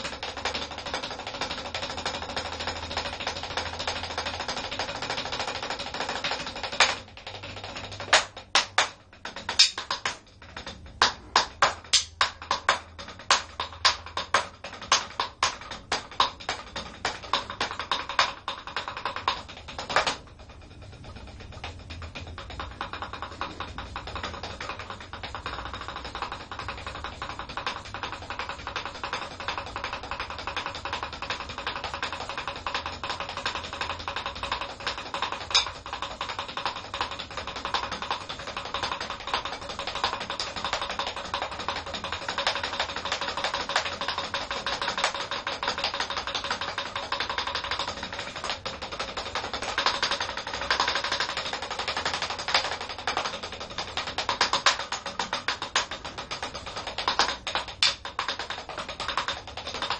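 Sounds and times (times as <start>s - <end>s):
drumsticks tapping practice pads: 0.0s - 59.9s.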